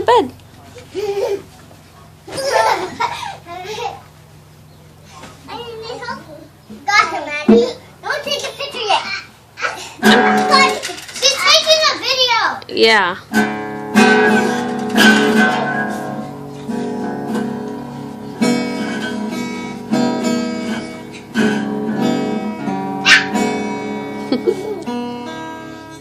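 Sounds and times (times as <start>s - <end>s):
acoustic guitar strumming: 3.4s - 26.0s.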